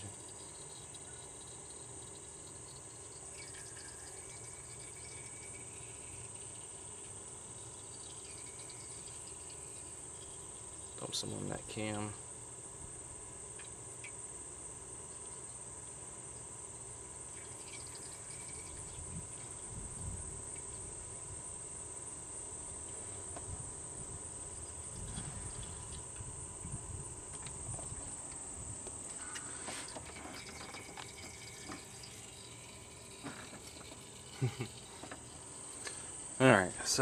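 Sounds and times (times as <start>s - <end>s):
crickets chirring: 0.0s - 37.0s
oil trickling through engine: 0.0s - 37.0s.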